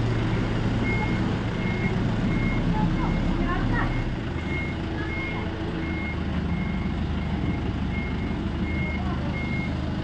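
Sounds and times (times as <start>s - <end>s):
forklift engine running: 0.0s - 10.0s
reversing alarm beeping: 0.2s - 9.8s.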